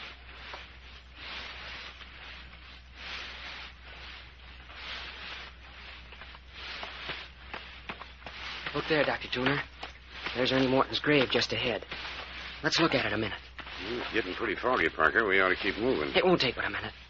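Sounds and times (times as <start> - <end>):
steady low hum: 0.0 - 17.0
swishing footsteps: 0.0 - 17.0.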